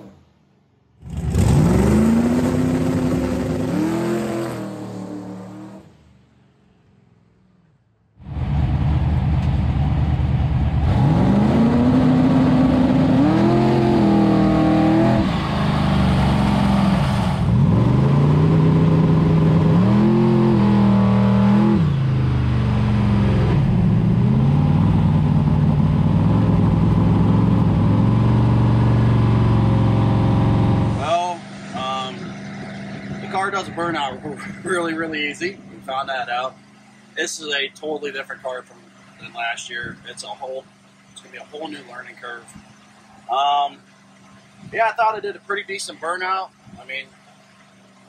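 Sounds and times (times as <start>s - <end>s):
race car engine revving: 1.0s - 6.1s, 8.2s - 47.4s.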